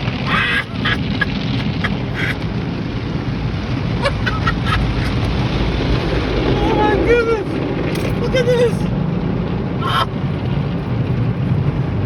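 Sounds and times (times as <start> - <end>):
car wash machinery rumbling: 0.0 - 12.0.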